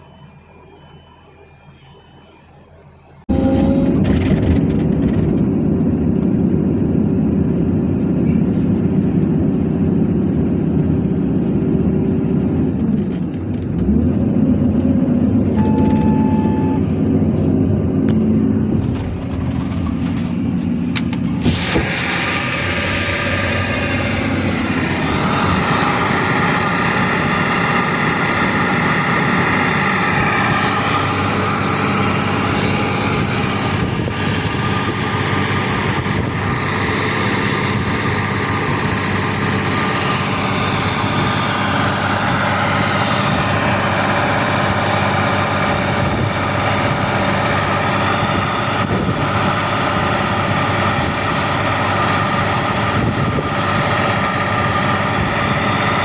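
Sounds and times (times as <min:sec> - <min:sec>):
high whine shifting in pitch: 0:00.0 - 0:08.3, 0:09.0 - 0:56.0
excavator diesel engine running: 0:00.0 - 0:56.0.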